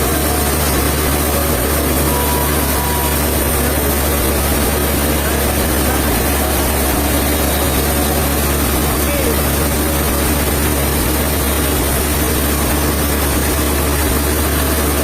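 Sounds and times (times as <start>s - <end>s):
heavy sawmill machinery running: 0.0s - 15.0s.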